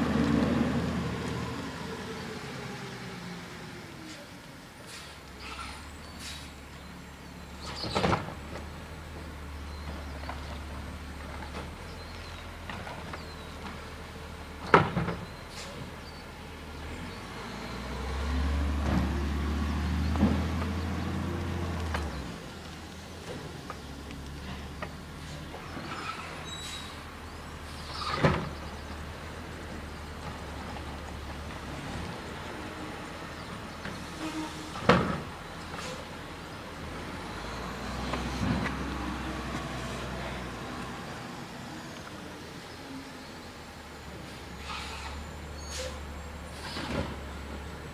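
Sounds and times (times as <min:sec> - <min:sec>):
garbage truck rumbling: 0:00.0 - 0:47.9.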